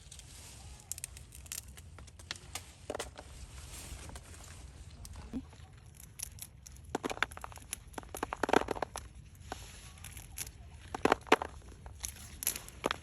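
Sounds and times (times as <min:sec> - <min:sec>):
rustling handling noise: 0:00.0 - 0:13.0.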